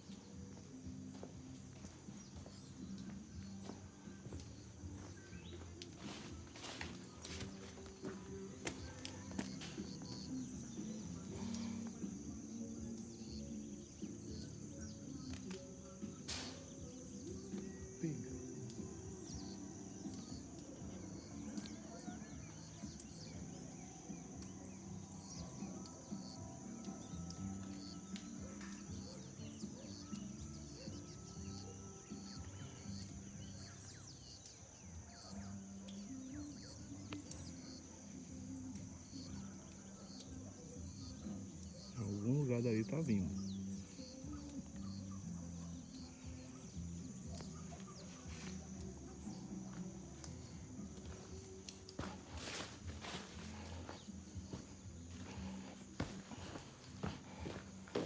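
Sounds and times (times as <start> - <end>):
birds chirping: 0.0 - 58.0
high insect drone: 0.0 - 58.0.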